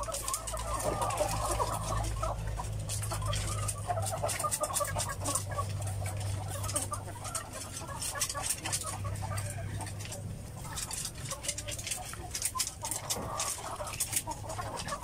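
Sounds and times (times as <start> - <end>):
hens clucking and chattering: 0.0 - 15.0.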